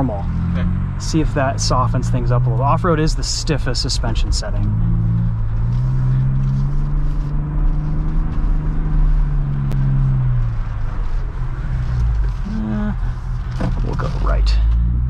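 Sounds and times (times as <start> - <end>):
car engine pulling steadily: 0.0 - 15.0
tyres rumbling on rough ground: 0.0 - 15.0.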